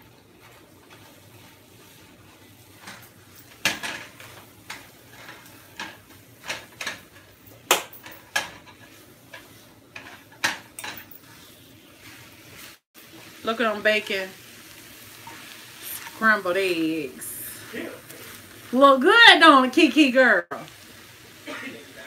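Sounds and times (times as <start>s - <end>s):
spatula scraping frying pan: 0.0s - 7.4s, 8.0s - 19.2s.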